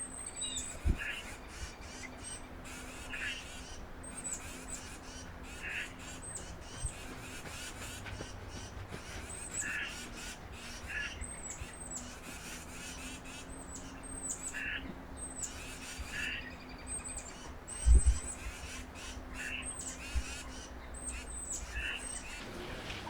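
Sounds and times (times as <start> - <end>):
faint steady hum: 0.0 - 23.0
harsh crow-like bird calls: 0.0 - 23.0
small birds chipping: 0.0 - 23.0.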